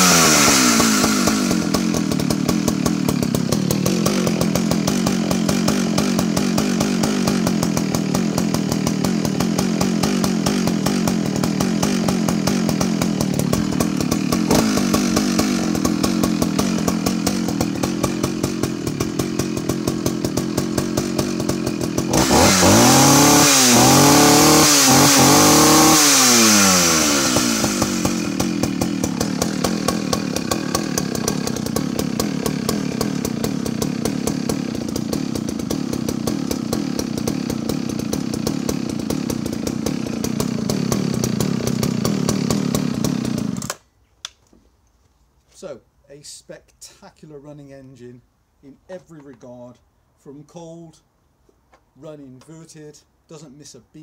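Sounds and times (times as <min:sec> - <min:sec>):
chainsaw idling and revving: 0:00.0 - 0:43.8.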